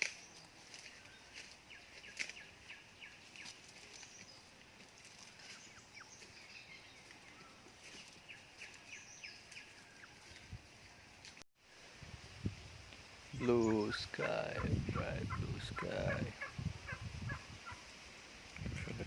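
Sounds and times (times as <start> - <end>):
small birds chirping: 0.0 - 11.4, 12.4 - 18.7.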